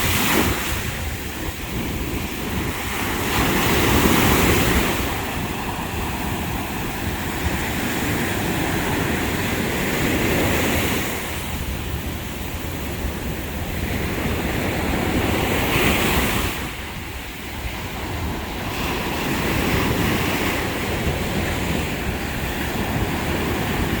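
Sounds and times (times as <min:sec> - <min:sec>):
waves breaking on a beach: 0:00.0 - 0:24.0
wind buffeting the microphone: 0:00.0 - 0:24.0.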